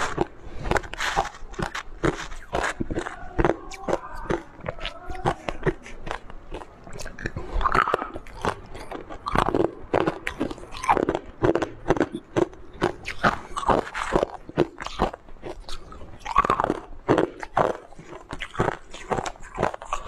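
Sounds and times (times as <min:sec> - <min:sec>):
ice crunching between teeth: 0:00.0 - 0:20.0.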